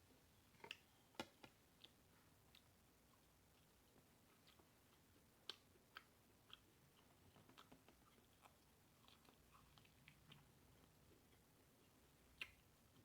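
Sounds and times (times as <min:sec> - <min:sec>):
person chewing food: 0:00.6 - 0:13.0.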